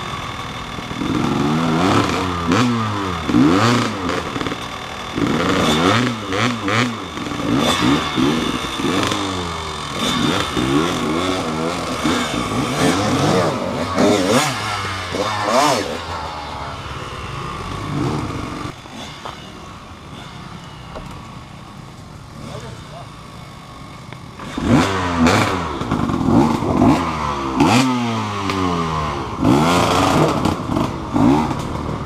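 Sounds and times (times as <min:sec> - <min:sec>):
dirt bike engine revving: 0:00.0 - 0:32.0
engine clatter: 0:00.0 - 0:32.0.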